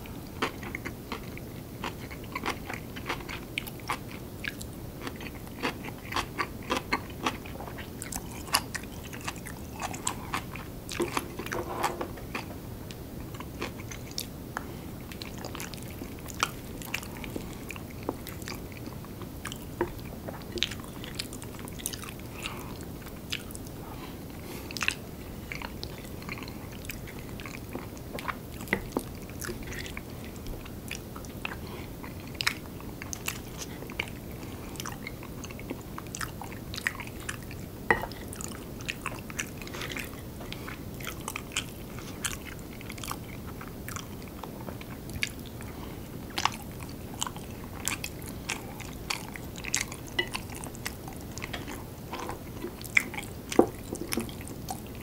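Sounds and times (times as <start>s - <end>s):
person chewing food: 0.0s - 55.0s
steady low hiss: 0.0s - 55.0s.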